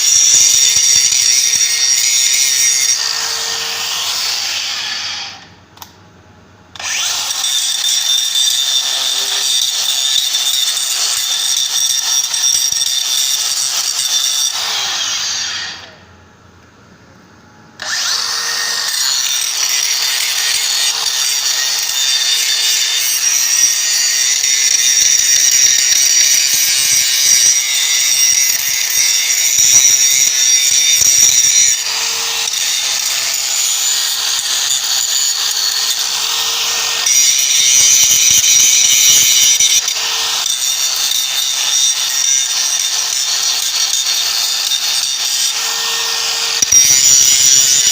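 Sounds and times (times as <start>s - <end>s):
angle grinder grinding steel: 0.0s - 5.6s, 6.8s - 16.1s, 17.8s - 47.9s.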